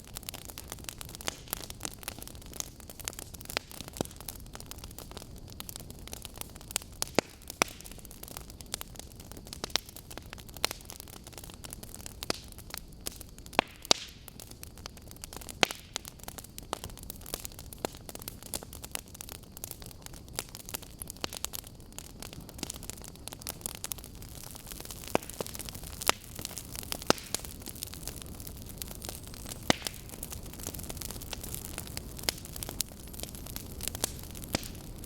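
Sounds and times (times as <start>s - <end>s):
fire low rumble and hiss: 0.0s - 35.0s
wood fire crackling and popping: 0.0s - 35.0s.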